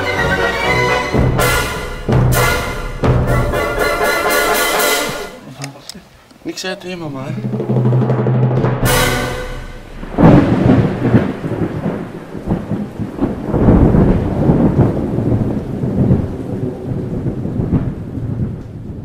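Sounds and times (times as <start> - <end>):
thunder clap and rumbles: 0.0 - 5.2, 7.4 - 19.0
steady rain: 0.0 - 19.0.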